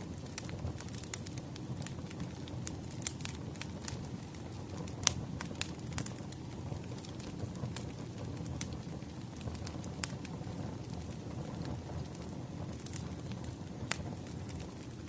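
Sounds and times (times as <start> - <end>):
sharp pops of burning logs: 0.0 - 15.0
wood fire crackling: 0.0 - 15.0.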